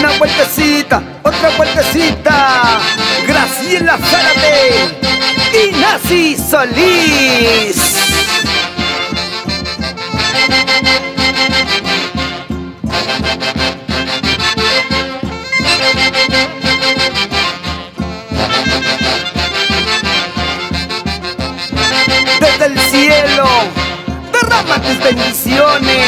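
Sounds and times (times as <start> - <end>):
saxophones playing melody: 1.3 - 26.0
steady drumbeat: 2.0 - 26.0.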